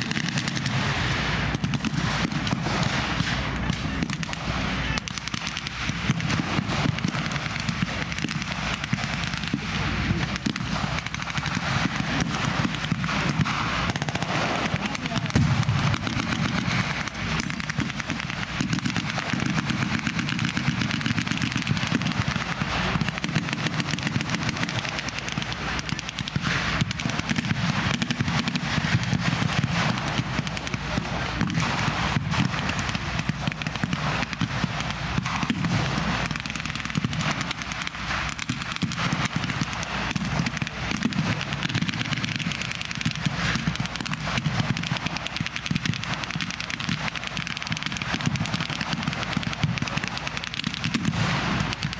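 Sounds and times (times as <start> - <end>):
gunfire crackle: 0.0 - 51.9
automatic gunfire bursts: 1.5 - 51.9.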